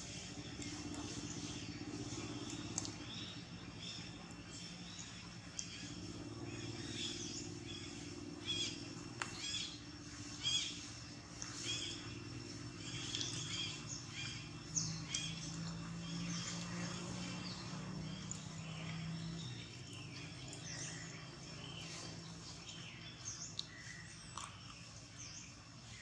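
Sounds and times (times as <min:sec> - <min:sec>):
birds chirping: 0:00.0 - 0:26.0
low steady hum: 0:00.0 - 0:26.0.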